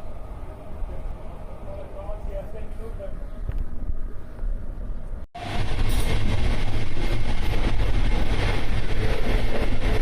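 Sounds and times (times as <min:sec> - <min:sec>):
passenger train rumbling: 0:00.0 - 0:03.2, 0:04.2 - 0:10.0.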